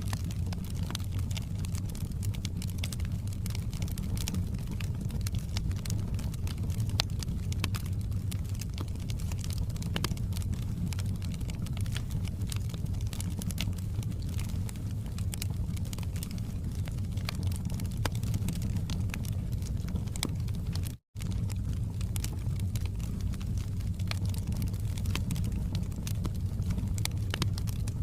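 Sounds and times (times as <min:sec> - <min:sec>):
burning wood crackling and popping: 0:00.0 - 0:28.0
low rumble of flames: 0:00.0 - 0:28.0.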